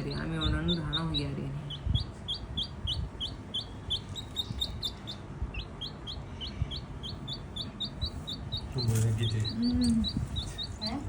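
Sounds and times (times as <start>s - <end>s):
chick peeping: 0.0s - 11.0s.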